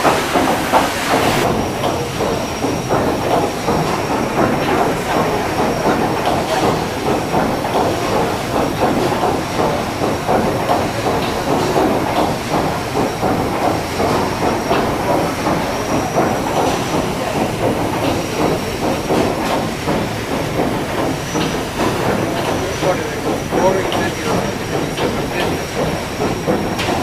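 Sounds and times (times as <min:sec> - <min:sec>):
steam engine and paddle wheels churning: 0:00.0 - 0:27.0.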